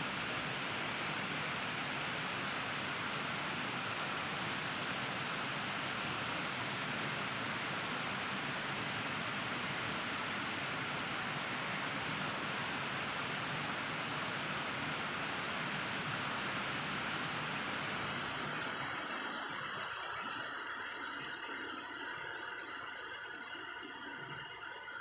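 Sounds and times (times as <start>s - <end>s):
steady rushing hiss: 0.0s - 22.7s.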